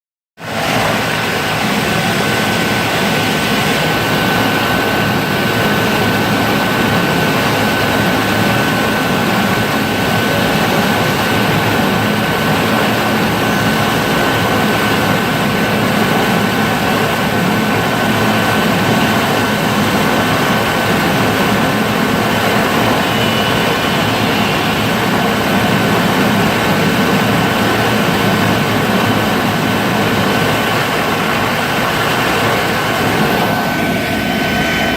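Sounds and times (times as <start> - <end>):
high-pitched whine: 0.4 - 34.9
loud industrial drone: 0.4 - 34.9.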